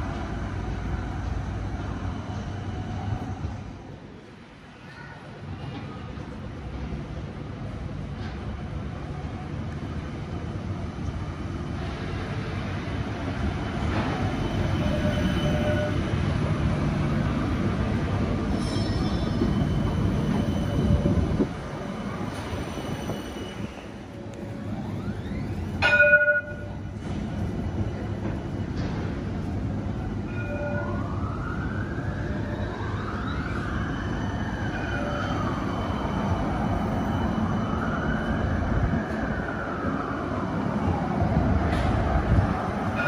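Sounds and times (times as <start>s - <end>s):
tram running rumble: 0.0s - 43.0s
tram traction whine: 0.0s - 43.0s.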